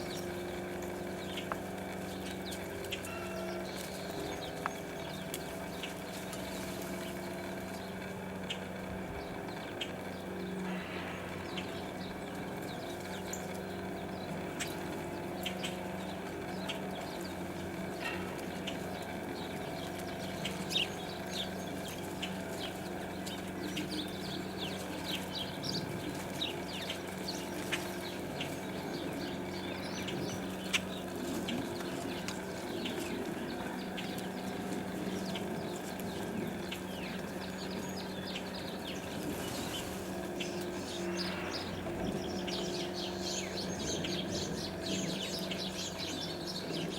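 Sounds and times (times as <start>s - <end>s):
small birds chirping: 0.0s - 46.9s
steady low hum: 0.0s - 46.9s.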